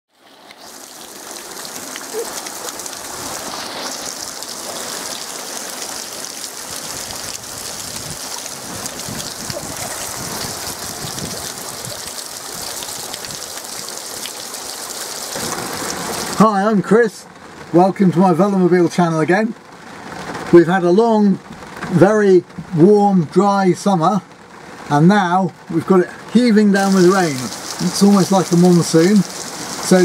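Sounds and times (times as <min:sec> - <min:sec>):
heavy rain splashing on concrete: 0:00.1 - 0:22.8, 0:23.8 - 0:30.0.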